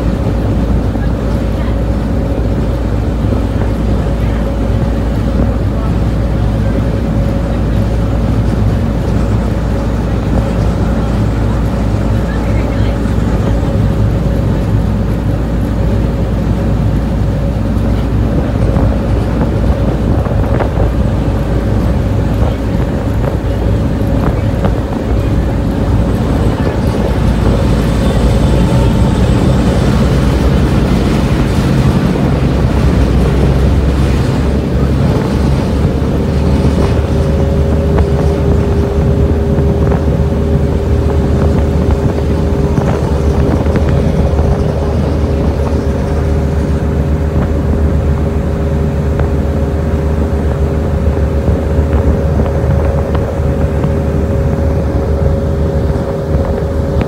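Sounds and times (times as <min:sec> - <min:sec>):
low steady hum: 0:00.0 - 0:57.0
ship engines droning: 0:00.0 - 0:57.0
water churning: 0:00.0 - 0:57.0.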